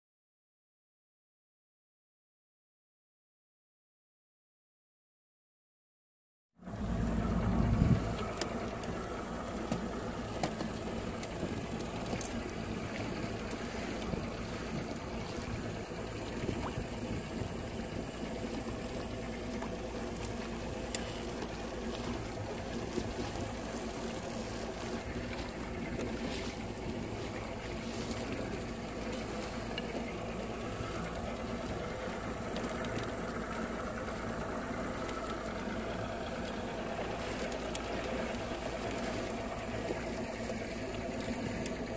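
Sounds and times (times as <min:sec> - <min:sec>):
outboard motor running: 0:06.6 - 0:41.9
water rushing past hull: 0:06.6 - 0:41.9.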